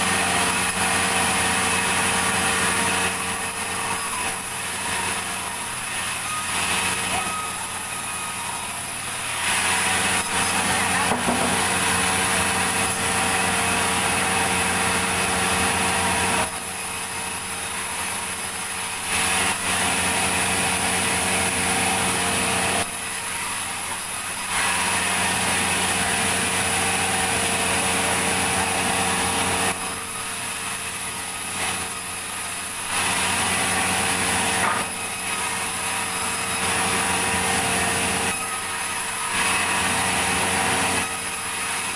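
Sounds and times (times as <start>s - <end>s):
saw rasping through logs: 0.0s - 41.9s
sawmill machine hum: 0.0s - 41.9s.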